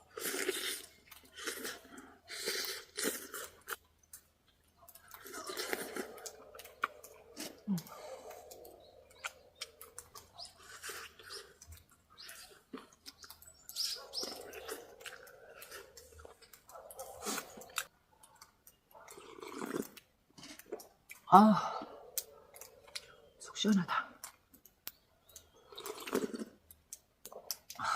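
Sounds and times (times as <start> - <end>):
chewing and lip-smacking: 0.0 - 27.9
wet mouth clicks and squeaks: 0.2 - 21.3, 22.1 - 27.8.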